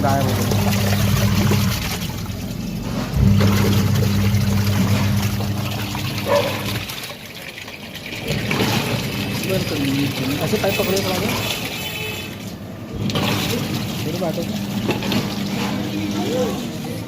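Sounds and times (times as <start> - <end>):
washing machine motor humming: 0.0 - 17.0
water sloshing and trickling: 0.0 - 17.0.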